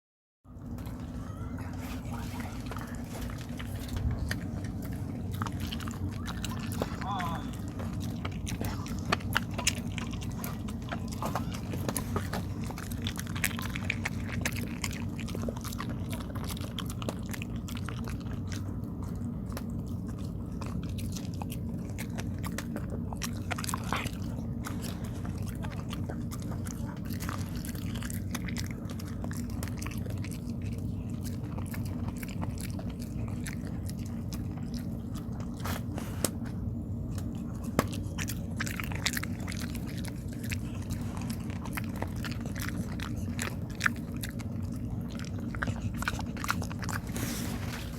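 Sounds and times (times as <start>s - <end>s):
dog chewing sticky food: 0.5s - 47.9s
steady low hum: 0.5s - 47.9s.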